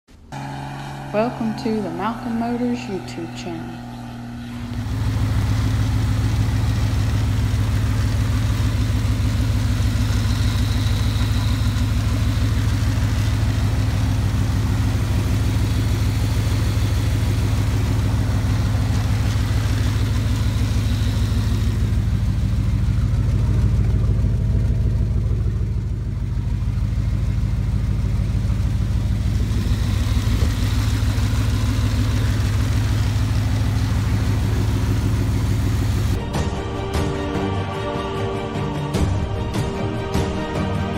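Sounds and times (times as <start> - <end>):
truck engine idling: 0.1 - 40.9.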